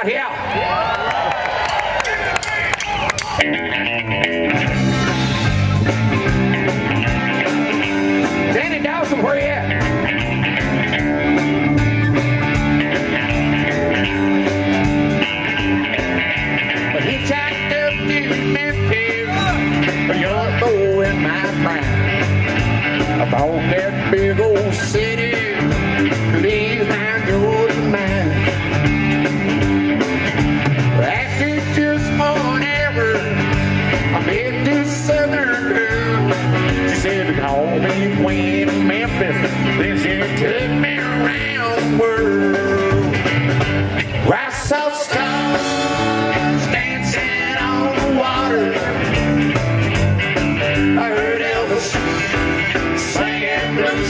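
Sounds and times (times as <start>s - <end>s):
live country-rock band playing: 0.0s - 54.0s.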